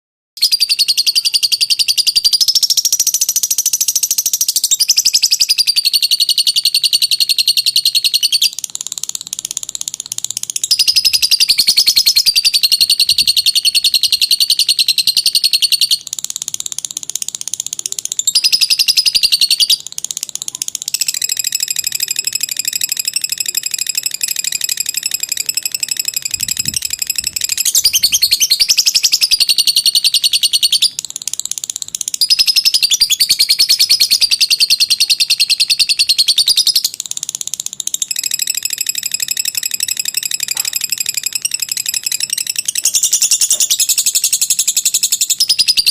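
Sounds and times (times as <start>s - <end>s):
lovebird chattering trill: 0.4s - 45.9s.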